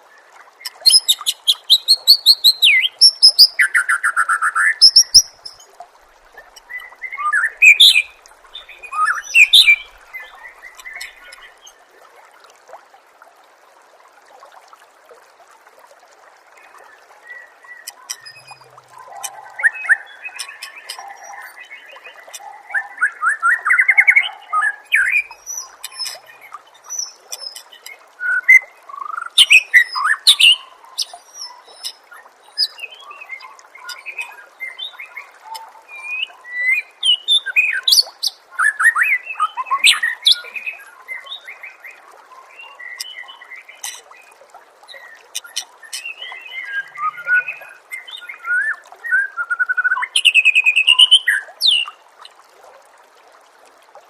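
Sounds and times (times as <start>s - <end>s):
songbird chirps and trills: 0.5s - 11.8s, 16.6s - 52.3s.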